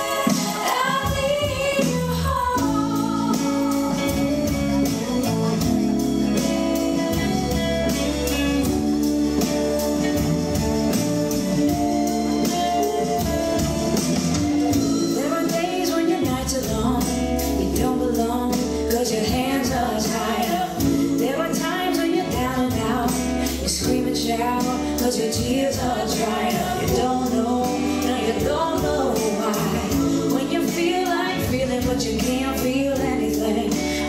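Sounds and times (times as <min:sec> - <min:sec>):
song with singer over beat: 0:00.0 - 0:10.2, 0:10.8 - 0:34.0.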